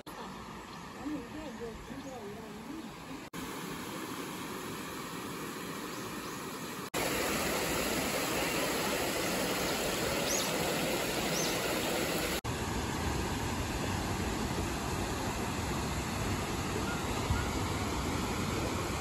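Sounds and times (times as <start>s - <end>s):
stream water rushing over stones: 0.0s - 19.0s.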